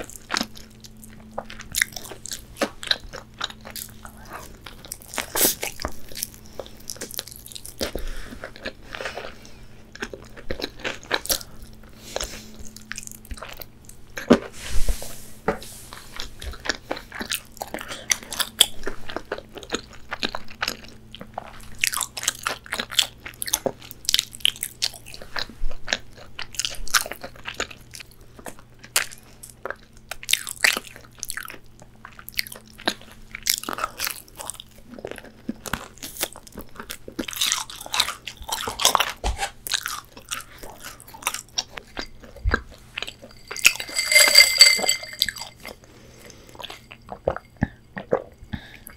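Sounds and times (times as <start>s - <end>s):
chewing crispy fried chicken: 0.0s - 14.6s, 15.9s - 43.2s.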